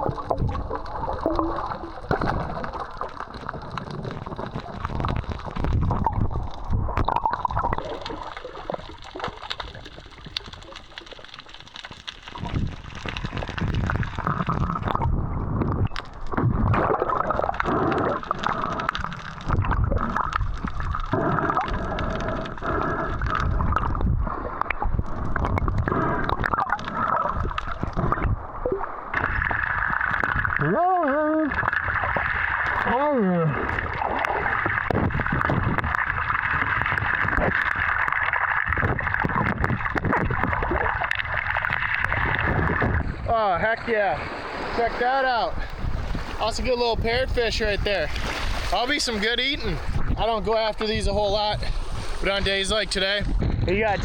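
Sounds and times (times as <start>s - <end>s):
seawater gurgling and sloshing: 0.0s - 54.0s.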